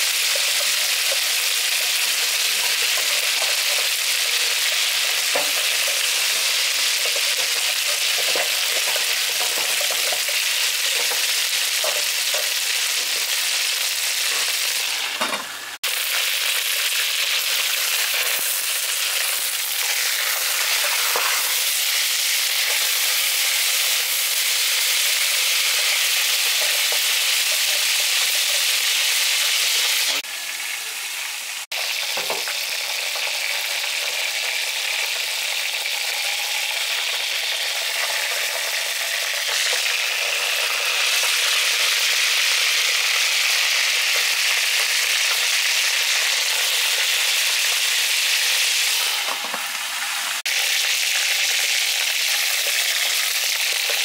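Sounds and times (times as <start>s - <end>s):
chicken sizzling in fat: 0.0s - 54.0s.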